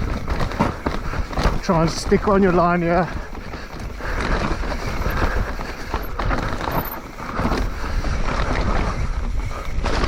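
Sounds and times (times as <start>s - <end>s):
bike rattling over rocks: 0.0s - 10.0s
wind rushing over microphone: 0.0s - 10.0s.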